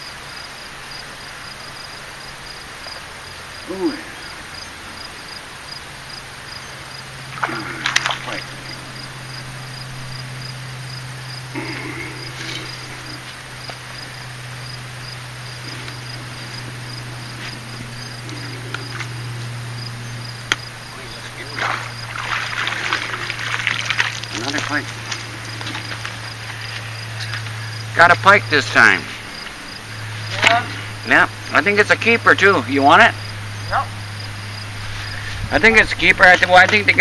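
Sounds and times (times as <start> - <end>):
insects chirping: 0.0 - 37.0
low steady hum: 1.5 - 37.0.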